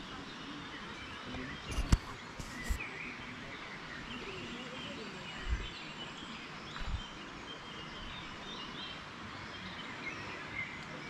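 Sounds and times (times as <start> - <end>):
birds singing and chirping: 0.0 - 11.0.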